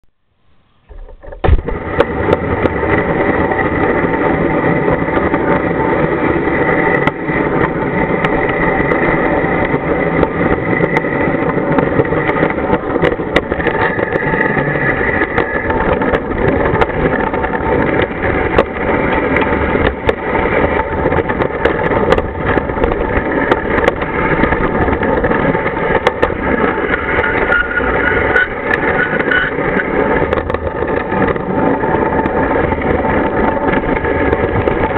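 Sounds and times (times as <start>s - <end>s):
steady whine: 0.0s - 34.9s
model train wheels on rails: 0.2s - 34.9s.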